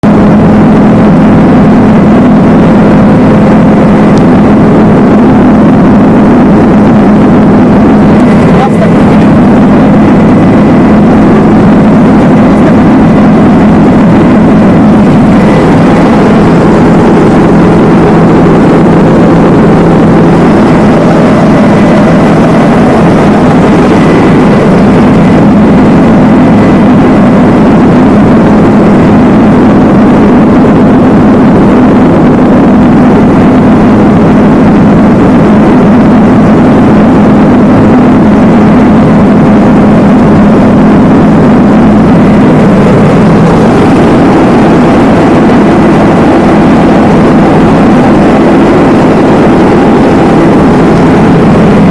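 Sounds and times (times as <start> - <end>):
helicopter engine and rotor drone: 0.0 - 51.9
faint high whine: 0.1 - 51.9.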